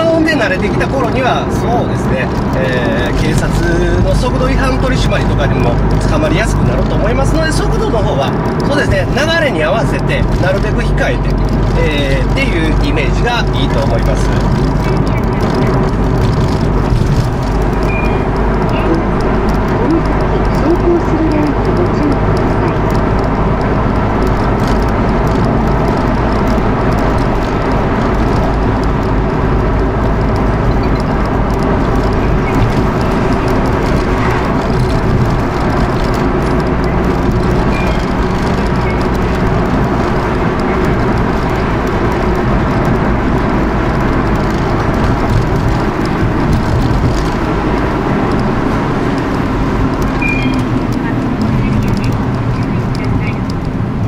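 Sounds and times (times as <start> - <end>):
car engine running: 0.0 - 54.0
tyre and road noise: 0.0 - 54.0.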